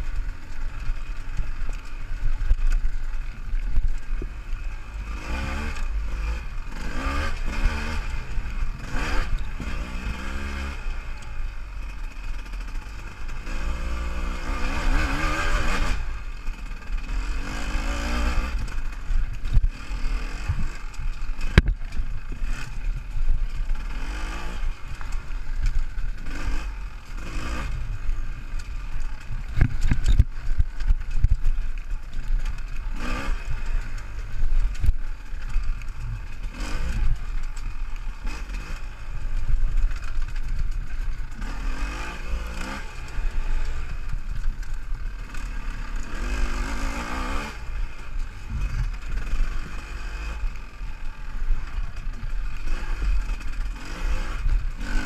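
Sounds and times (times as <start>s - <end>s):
knocks and clatter over bumps: 0.0s - 55.0s
motorcycle engine revving: 0.0s - 55.0s.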